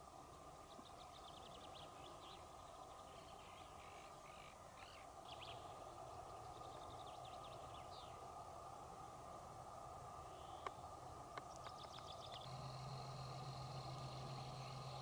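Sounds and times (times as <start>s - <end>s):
steady background hiss: 0.0s - 15.0s
faint songbird chirps and trills: 0.2s - 8.4s, 10.2s - 15.0s.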